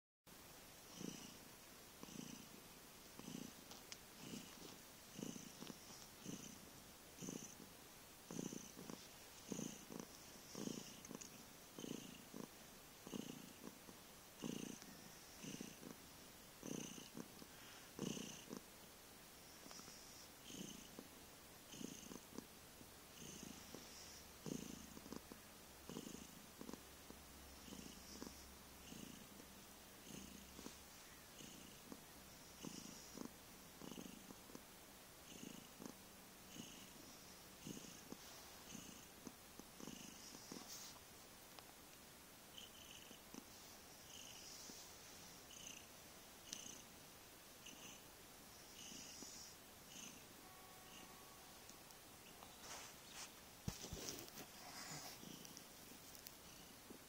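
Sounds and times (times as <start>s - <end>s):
cat purring: 0.8s - 18.8s, 19.4s - 41.2s, 42.5s - 51.5s, 52.2s - 57.0s.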